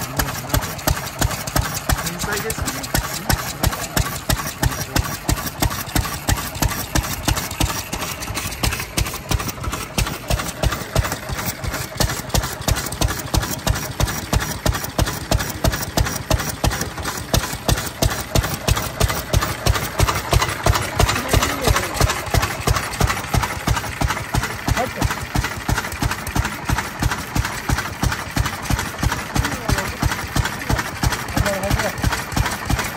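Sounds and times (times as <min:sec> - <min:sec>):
stationary engine running: 0:00.0 - 0:32.9.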